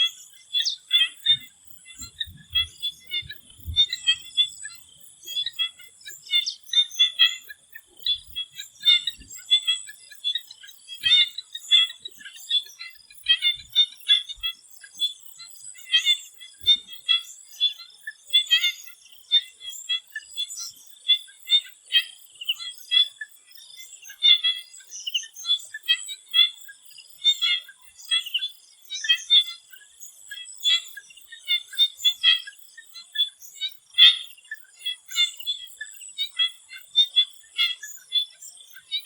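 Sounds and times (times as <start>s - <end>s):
frogs calling: 0.0s - 39.0s.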